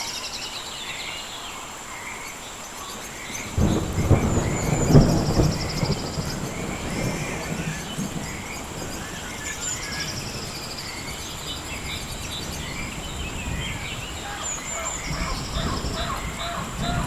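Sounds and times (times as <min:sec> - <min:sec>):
birds chirping: 0:00.0 - 0:17.0
insects trilling: 0:00.0 - 0:17.0.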